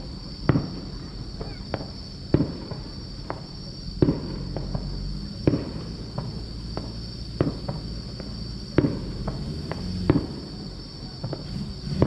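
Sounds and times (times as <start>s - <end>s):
faint firework pops: 0.0s - 12.0s
firework shells bursting: 0.0s - 12.0s
insects chirring: 0.0s - 12.0s.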